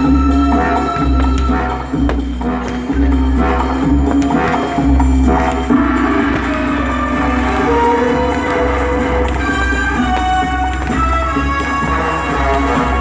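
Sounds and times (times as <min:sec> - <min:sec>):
loud music with deep bass: 0:00.0 - 0:13.0.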